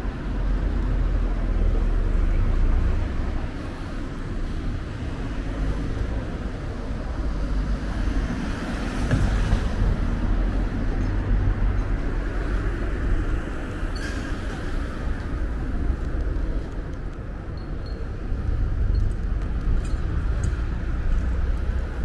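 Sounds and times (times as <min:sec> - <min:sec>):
street traffic hum: 0:00.0 - 0:22.0.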